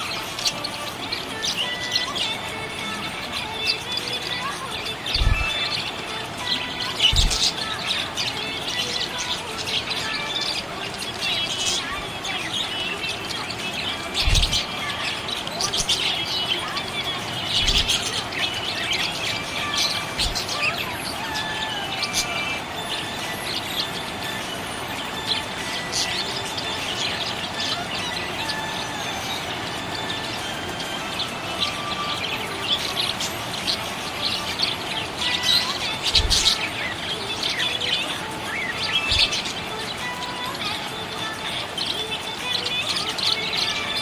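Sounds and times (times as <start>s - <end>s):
budgerigars chirping: 0.0s - 44.0s.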